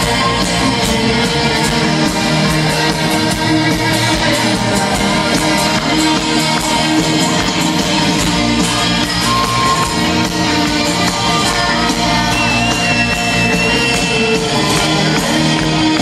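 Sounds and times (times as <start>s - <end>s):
electric guitars: 0.0s - 16.0s
live rock band through pa: 0.0s - 16.0s.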